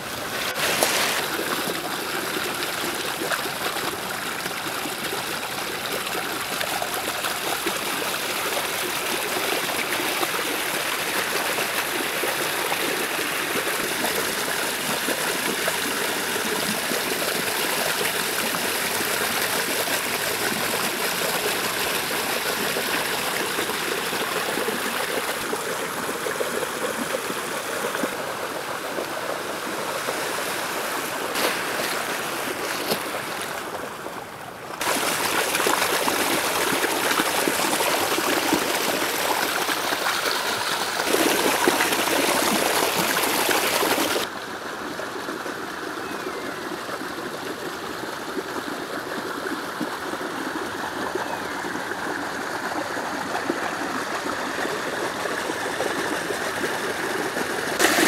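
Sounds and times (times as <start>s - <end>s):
water rushing over stones: 0.0s - 45.2s, 46.8s - 58.0s.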